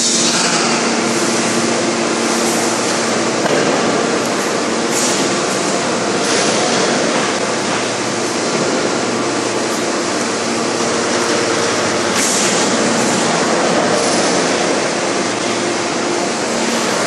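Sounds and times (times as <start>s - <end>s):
hydraulic forging press running: 0.0s - 17.0s.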